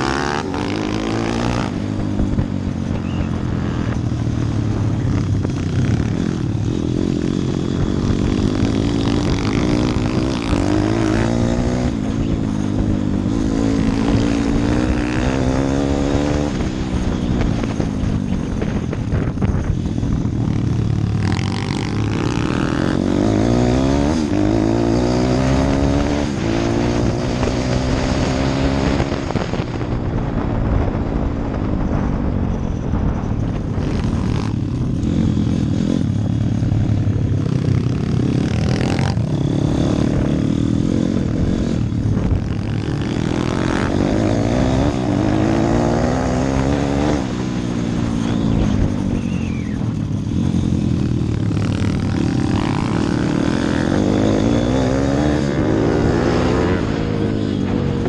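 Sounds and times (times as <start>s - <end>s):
pit bike engine revving: 0.0s - 29.8s, 33.6s - 58.0s.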